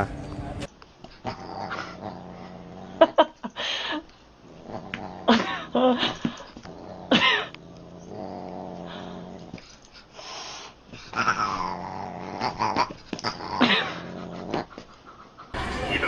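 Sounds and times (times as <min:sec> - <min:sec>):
dog growling: 0:01.1 - 0:03.5, 0:04.4 - 0:09.9, 0:10.6 - 0:15.7.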